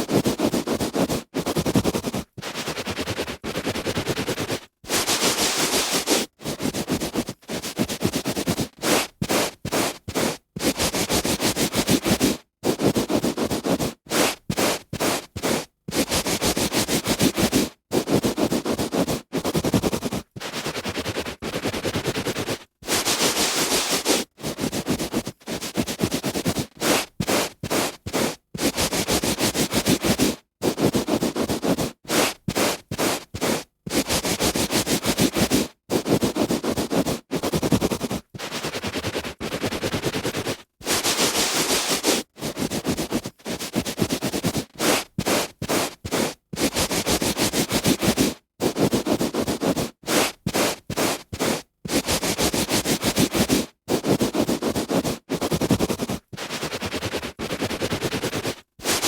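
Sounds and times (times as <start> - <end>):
hand rubbing on carpet: 0.2 - 59.0.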